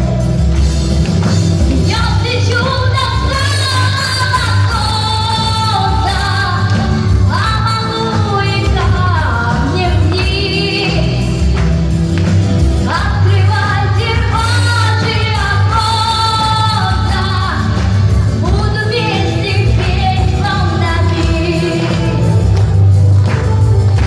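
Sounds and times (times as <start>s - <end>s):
backing track with bass and beat: 0.0s - 24.0s
girl singing pop ballad: 1.7s - 11.9s, 12.7s - 24.0s.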